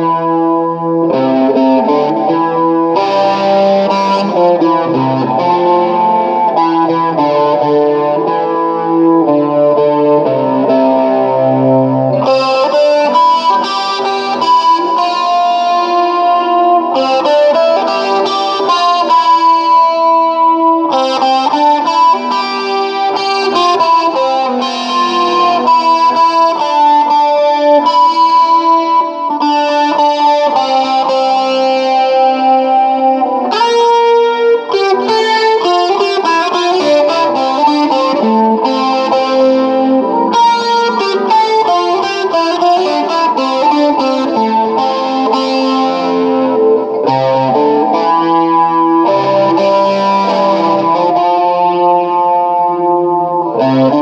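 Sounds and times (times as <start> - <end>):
electric guitar solo with effects: 0.0 - 54.0.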